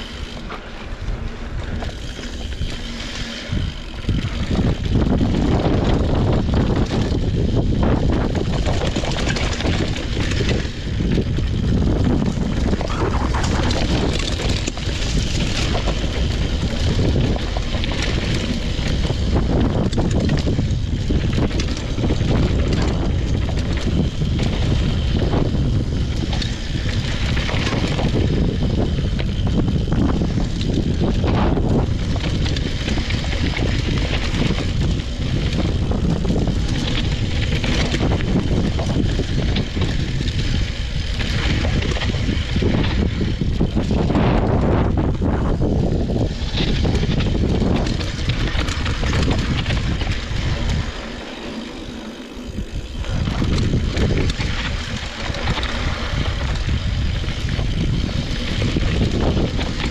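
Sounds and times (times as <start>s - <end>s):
bike rattles and knocks: 0.0s - 59.9s
bike tyres rolling over dirt: 0.0s - 59.9s
wind rumble on microphone: 0.0s - 59.9s.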